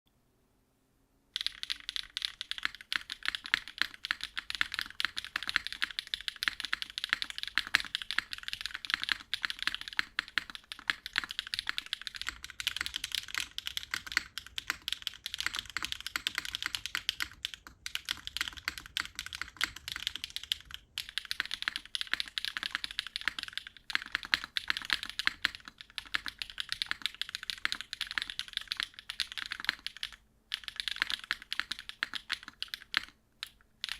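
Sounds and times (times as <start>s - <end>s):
mechanical keyboard typing: 1.4s - 33.9s.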